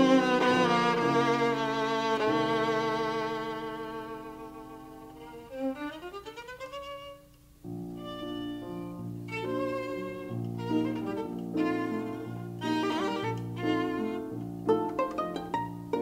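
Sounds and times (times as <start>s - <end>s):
lower accompanying notes: 0.0s - 16.0s
violin playing slow classical music: 0.0s - 16.0s.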